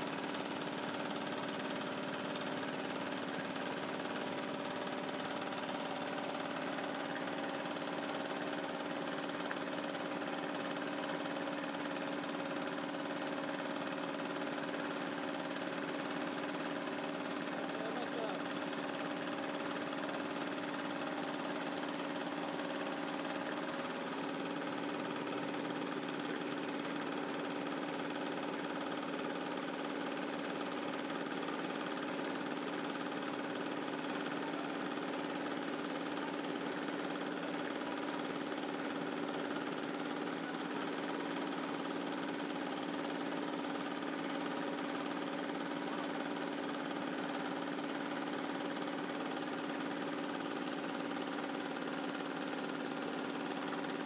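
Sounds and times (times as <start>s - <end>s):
small diesel engine running: 0.0s - 54.0s.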